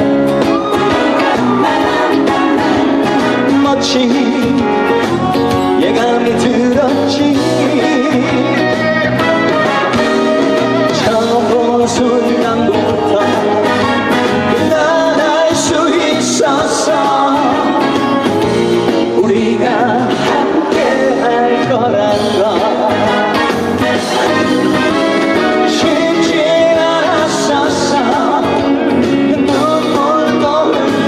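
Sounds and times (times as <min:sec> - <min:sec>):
loud backing track: 0:00.0 - 0:31.0
person singing: 0:00.0 - 0:31.0.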